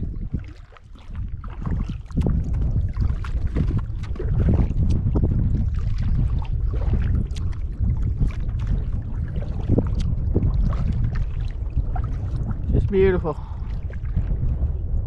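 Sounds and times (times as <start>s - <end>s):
canoe paddle splashing: 0.0s - 14.8s
water lapping at hull: 0.0s - 15.0s
wind rumbling on microphone: 0.0s - 15.0s.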